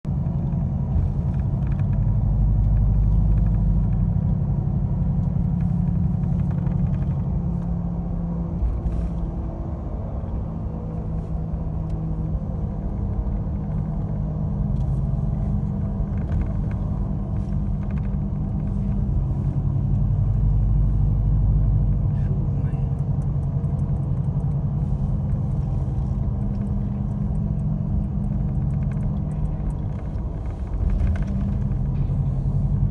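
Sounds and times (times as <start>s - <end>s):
car engine drone: 0.0s - 32.9s
road noise: 0.1s - 32.9s.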